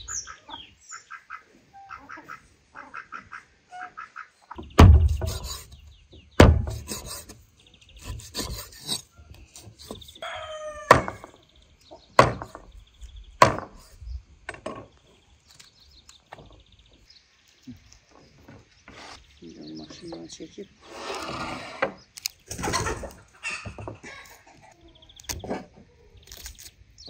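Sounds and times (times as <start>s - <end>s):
barnyard bird call: 0.0s - 26.8s.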